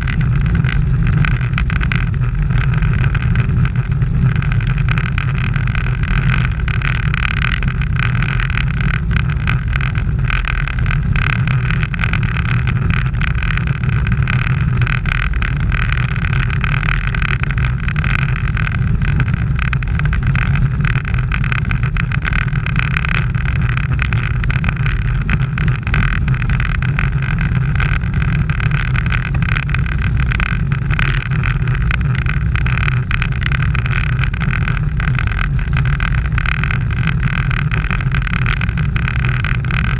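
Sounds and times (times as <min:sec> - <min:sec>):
bicycle tyres on asphalt: 0:00.0 - 0:39.9.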